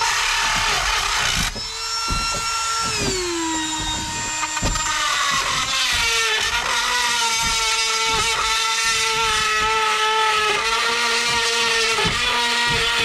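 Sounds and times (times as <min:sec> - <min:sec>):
rotary tool grinding: 0:00.0 - 0:13.0
rotary tool whining: 0:00.0 - 0:13.0.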